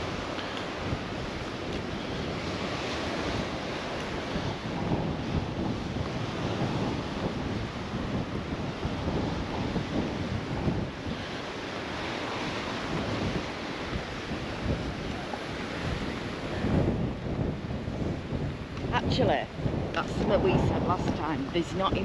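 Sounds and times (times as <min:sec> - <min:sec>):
steady rushing noise: 0:00.0 - 0:22.0
wind buffeting microphone: 0:00.0 - 0:22.0.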